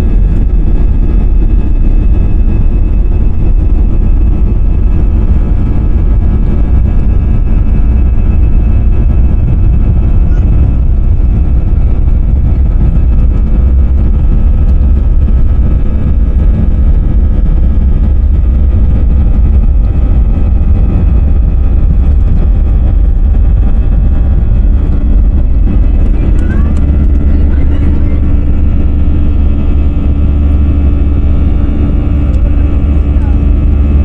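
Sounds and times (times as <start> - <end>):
jet engines rumbling and whining: 0.0 - 34.0.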